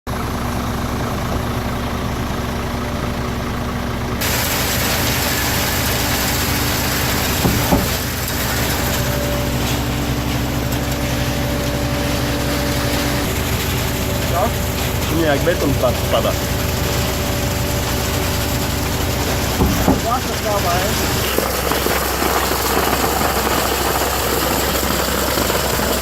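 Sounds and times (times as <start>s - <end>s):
diesel engine running: 0.1s - 26.0s.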